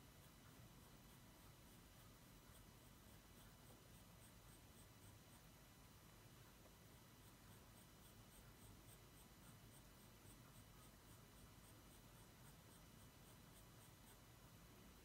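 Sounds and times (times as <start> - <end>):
pencil scratching on paper: 0.2 - 5.5, 6.9 - 14.4.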